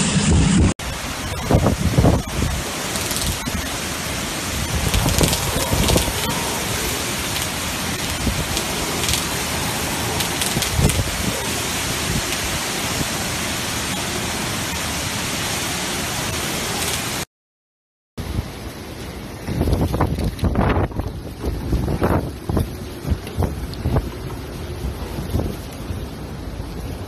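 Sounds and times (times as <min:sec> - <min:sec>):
strong wind gusts: 0:00.0 - 0:17.2, 0:18.2 - 0:27.0
driving rain: 0:00.0 - 0:17.3, 0:18.2 - 0:27.0.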